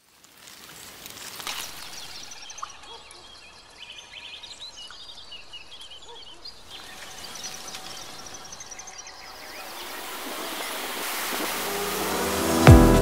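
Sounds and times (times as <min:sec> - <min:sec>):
outdoor background hiss: 0:00.0 - 0:13.0
small birds chirping: 0:01.3 - 0:12.0.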